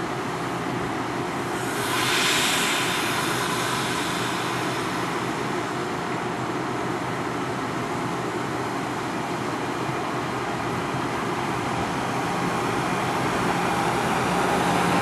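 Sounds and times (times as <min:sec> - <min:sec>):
train motors and blowers humming: 0:00.0 - 0:15.0
steel wheels rumbling on rail: 0:00.1 - 0:15.0.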